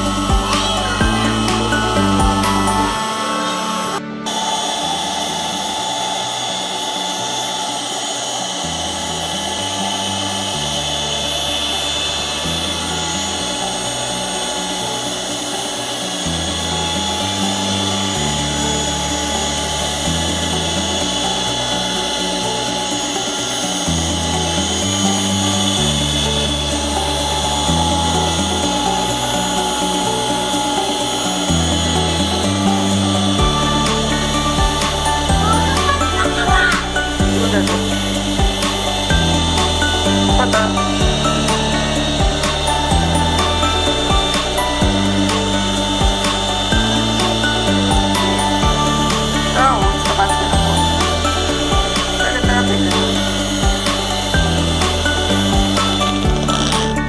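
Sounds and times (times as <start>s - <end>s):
background music with bass line: 0.0s - 6.5s, 8.4s - 57.0s
electric hand mixer motor whining: 0.0s - 57.0s.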